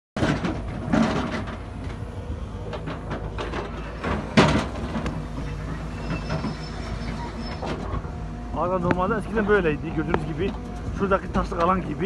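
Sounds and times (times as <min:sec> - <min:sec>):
excavator diesel engine running: 0:00.2 - 0:12.0.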